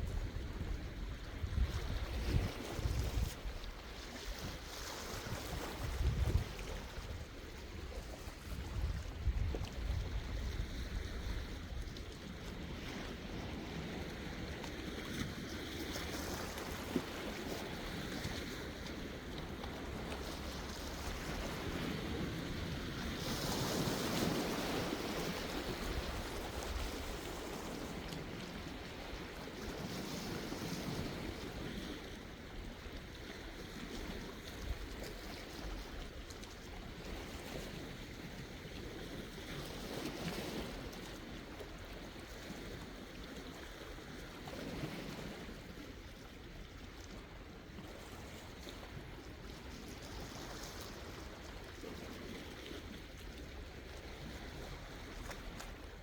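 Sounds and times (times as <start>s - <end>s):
sea waves washing ashore: 0.0s - 56.0s.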